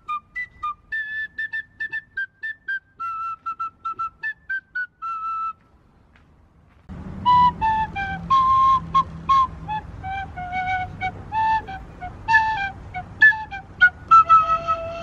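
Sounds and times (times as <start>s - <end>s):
end-blown flute melody: 0.0s - 5.7s, 7.0s - 15.0s.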